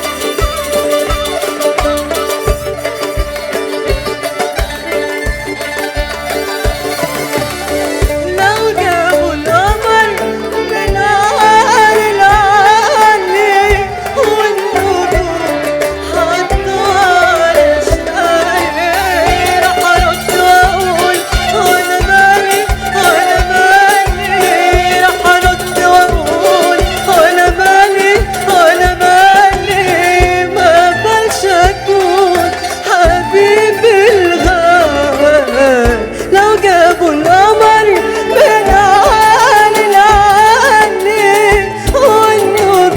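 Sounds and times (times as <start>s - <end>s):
ornamented melody: 0.0s - 42.9s
steady drum beat: 0.0s - 42.9s.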